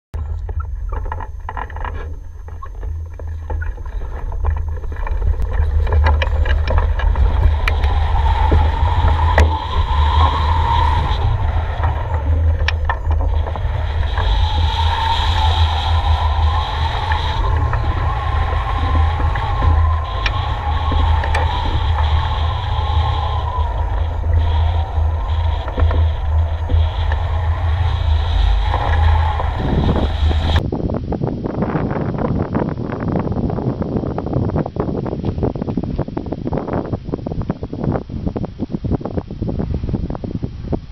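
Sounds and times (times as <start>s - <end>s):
wind buffeting microphone: 0.1s - 40.9s.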